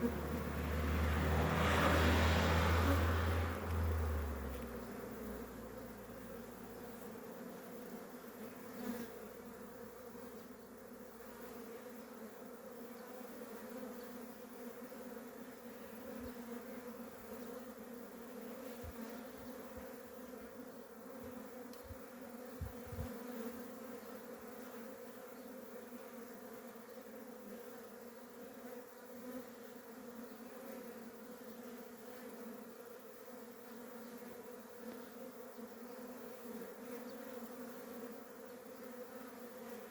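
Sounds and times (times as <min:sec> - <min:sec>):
honeybee swarm buzzing: 0:00.0 - 0:39.9.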